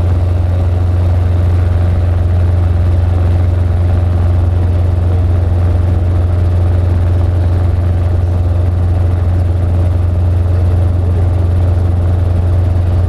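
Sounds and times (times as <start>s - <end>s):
small aircraft engine droning: 0.0s - 13.0s.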